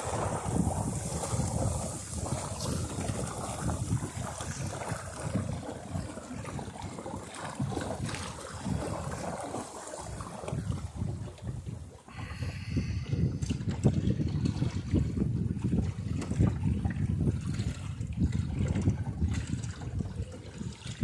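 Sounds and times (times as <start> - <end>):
water splashing along hull: 0.0 - 21.0
wind gusting on microphone: 0.0 - 21.0.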